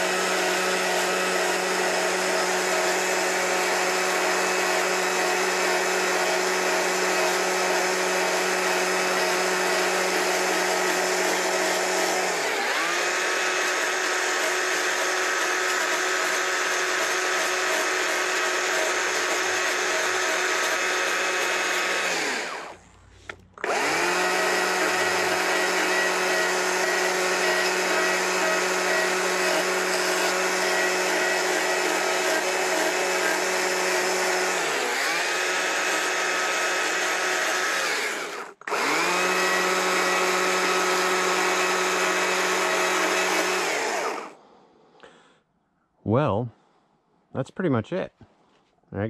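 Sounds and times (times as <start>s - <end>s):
chainsaw cutting wood: 0.0s - 44.4s.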